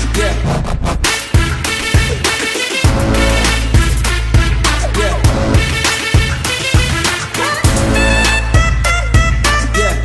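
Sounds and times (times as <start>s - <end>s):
deep bass line: 0.0s - 10.0s
drum beat: 1.0s - 10.0s.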